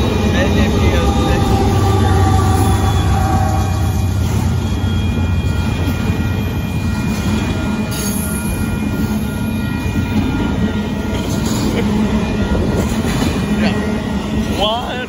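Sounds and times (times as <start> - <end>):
high wheel squeal: 0.0 - 15.0
train wheels rumbling on rail: 0.0 - 15.0.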